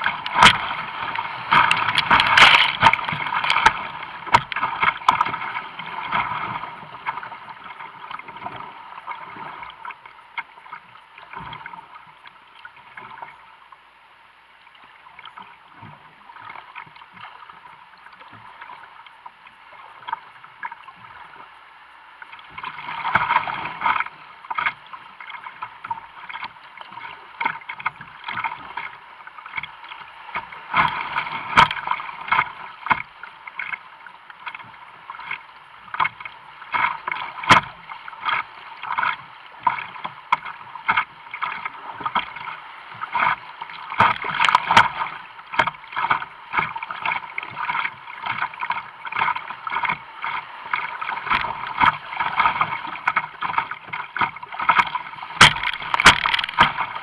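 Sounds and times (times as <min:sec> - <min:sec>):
rushing water: 0:00.0 - 0:57.0
water splashing against hull: 0:00.0 - 0:57.0.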